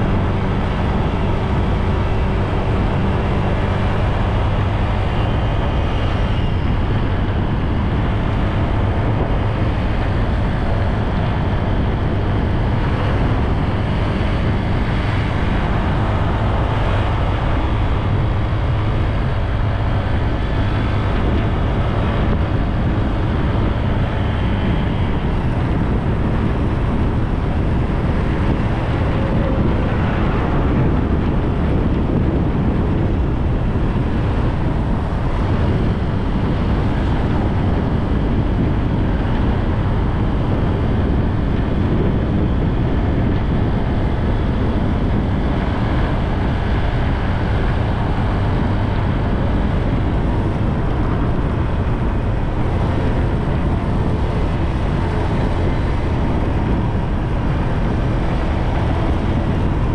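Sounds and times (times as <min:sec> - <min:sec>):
road noise: 0:00.0 - 0:59.9
wind rumble on microphone: 0:00.0 - 0:59.9.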